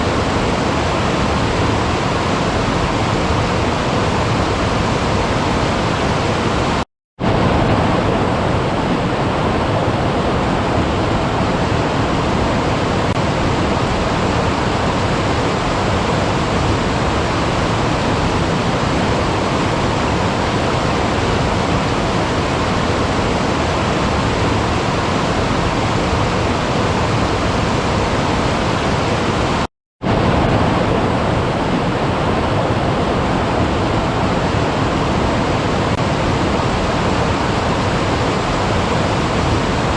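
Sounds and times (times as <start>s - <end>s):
rush of running water: 0.0s - 39.9s.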